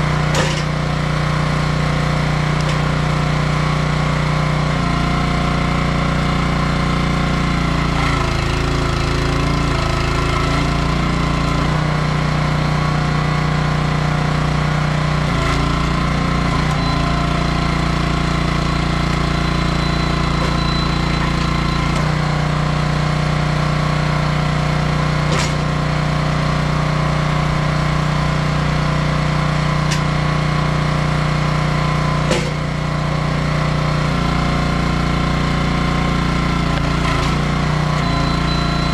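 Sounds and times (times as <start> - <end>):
small gas engine running: 0.0 - 38.9.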